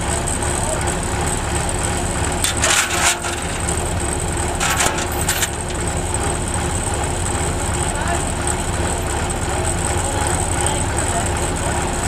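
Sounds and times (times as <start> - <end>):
combine harvester humming: 0.0 - 12.0.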